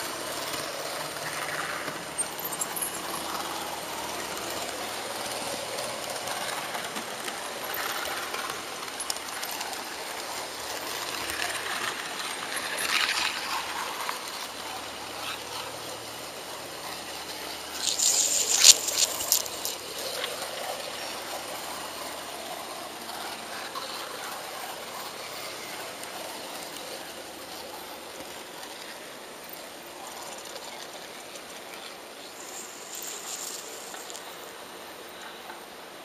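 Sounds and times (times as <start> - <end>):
model train running on track: 0.0 - 36.0.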